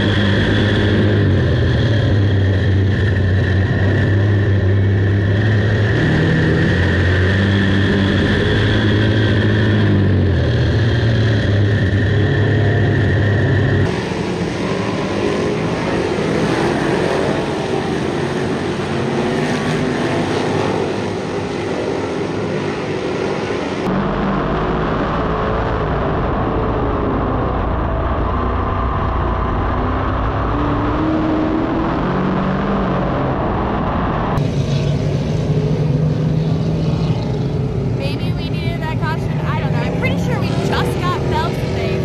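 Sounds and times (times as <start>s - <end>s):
engine running at low revs: 0.0s - 42.0s
race car engines rumbling: 0.0s - 42.0s.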